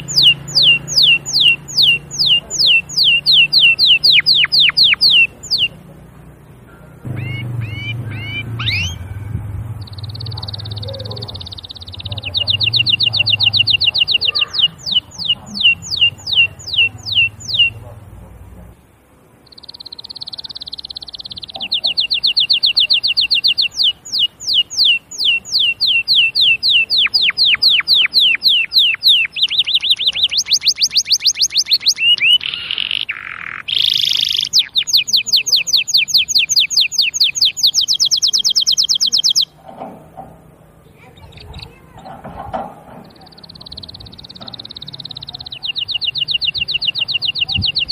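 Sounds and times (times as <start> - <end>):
canary singing: 0.0 - 47.9.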